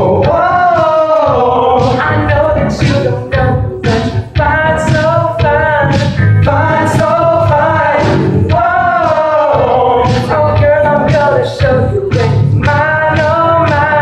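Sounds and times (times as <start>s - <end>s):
boys singing in harmony: 0.0s - 14.0s.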